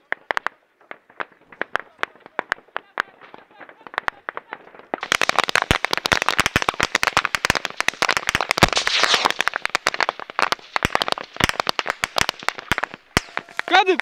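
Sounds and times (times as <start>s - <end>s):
rapid small-arms gunfire: 0.0s - 13.9s.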